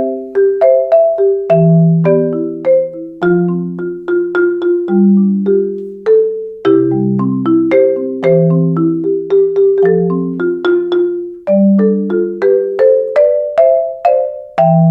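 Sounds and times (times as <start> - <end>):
marimba melody: 0.0 - 14.9.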